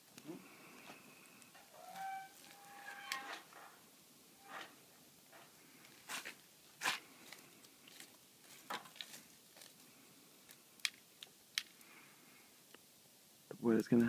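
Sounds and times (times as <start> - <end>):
tree burning with crackling pops: 0.0 - 14.0.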